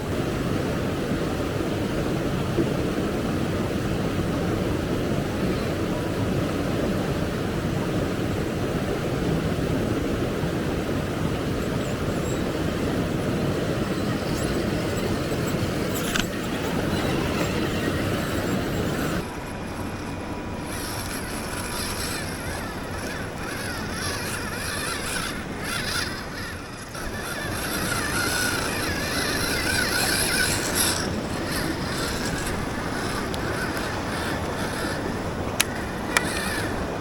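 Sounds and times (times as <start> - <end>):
electric motors whining: 0.0 - 37.0
outdoor noise: 0.0 - 37.0.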